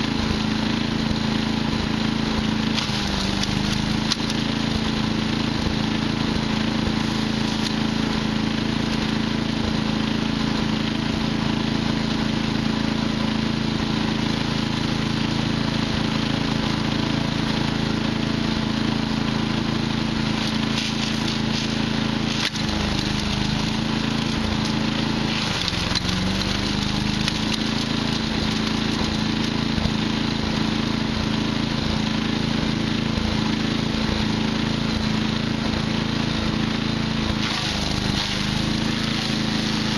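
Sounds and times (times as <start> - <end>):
wood chipper engine chipping wood: 0.0 - 39.9.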